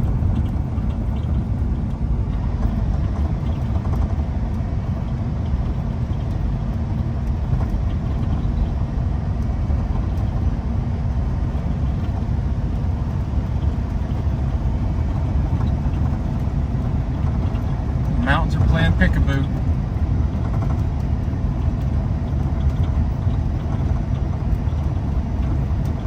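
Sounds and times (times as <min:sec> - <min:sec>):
truck engine and road rumble: 0:00.0 - 0:26.0.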